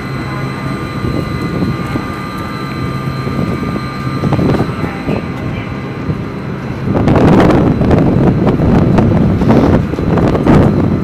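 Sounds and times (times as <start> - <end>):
rail wheels rumbling: 0.0 - 11.0
thin electrical whine: 0.0 - 11.0.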